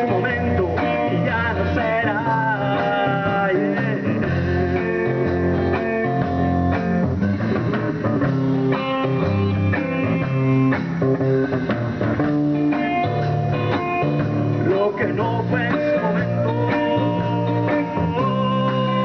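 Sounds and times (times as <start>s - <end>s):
drum kit steady beat: 0.0s - 19.0s
electric guitar bending melody: 0.0s - 19.0s
low bass line: 0.0s - 19.0s.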